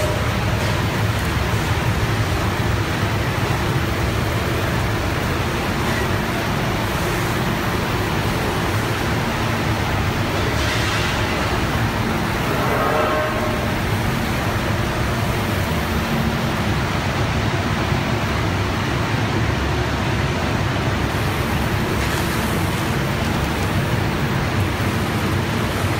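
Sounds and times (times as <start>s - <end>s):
drying machine running: 0.0s - 25.9s.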